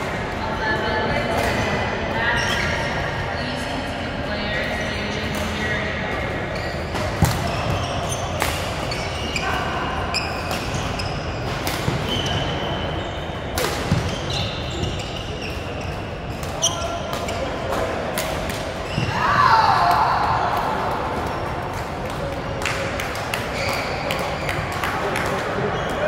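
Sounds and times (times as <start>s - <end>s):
court shoes squeaking: 0.0s - 3.2s, 4.4s - 26.0s
murmur of voices: 0.0s - 26.0s.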